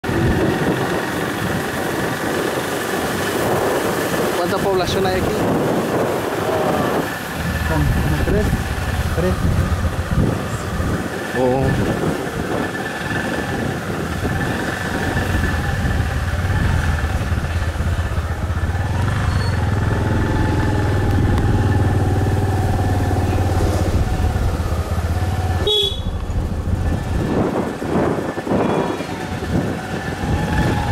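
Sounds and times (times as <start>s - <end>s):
motorcycle engine running: 5.0s - 30.9s.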